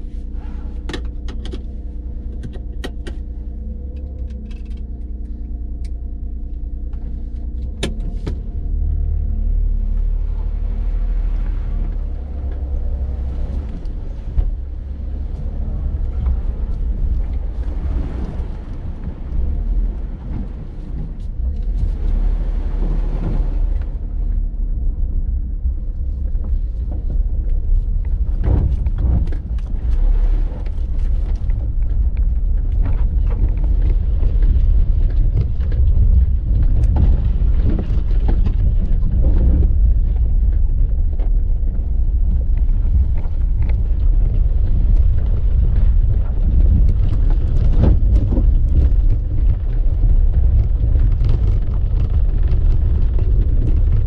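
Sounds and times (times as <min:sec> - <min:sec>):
car engine low rumble: 0:00.0 - 0:54.0
tyre and road noise: 0:00.0 - 0:54.0.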